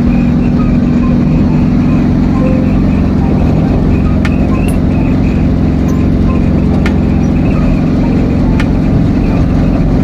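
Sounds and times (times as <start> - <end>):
diesel engine running: 0.0 - 10.0
road noise: 0.0 - 10.0.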